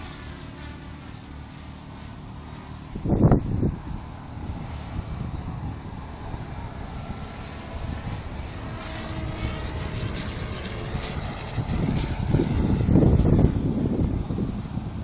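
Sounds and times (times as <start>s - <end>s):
low rumble: 0.0s - 15.0s
model helicopter engine and rotor drone: 0.0s - 15.0s.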